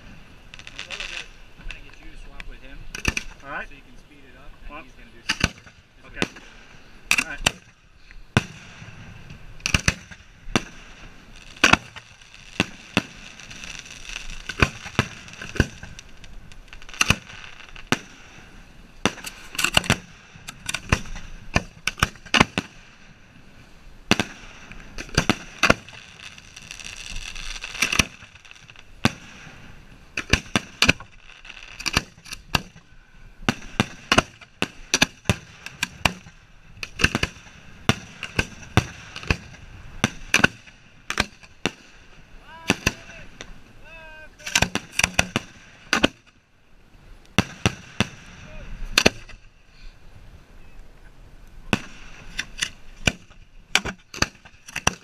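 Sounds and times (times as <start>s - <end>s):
fireworks bangs: 0.0s - 46.4s, 47.3s - 49.5s, 51.6s - 55.0s
steady hiss: 0.0s - 55.0s.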